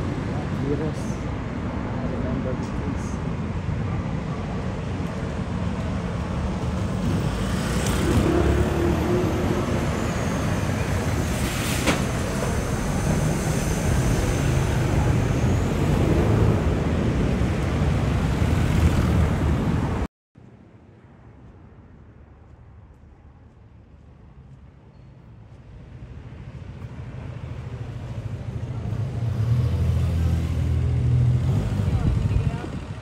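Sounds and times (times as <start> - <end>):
road traffic: 0.0 - 33.0.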